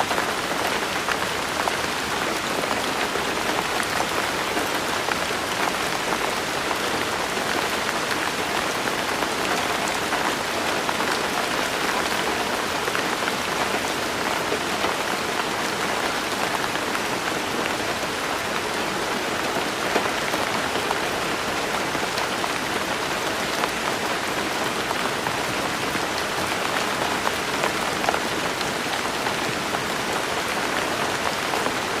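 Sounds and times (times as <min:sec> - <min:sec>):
steady rain patter: 0:00.0 - 0:32.0.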